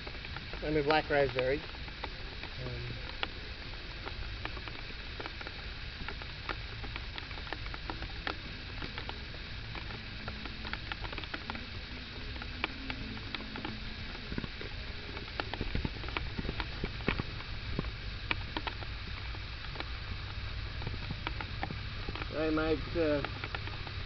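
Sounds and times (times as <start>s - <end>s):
low steady rumble: 0.0s - 24.0s
raindrops pattering: 0.0s - 24.0s.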